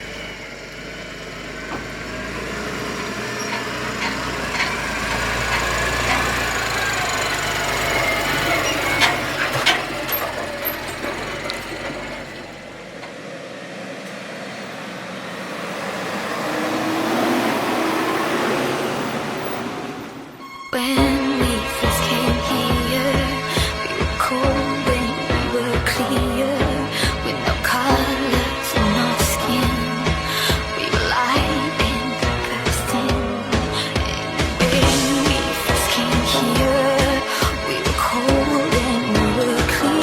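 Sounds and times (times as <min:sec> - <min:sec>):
diesel machinery running: 0:00.0 - 0:40.0.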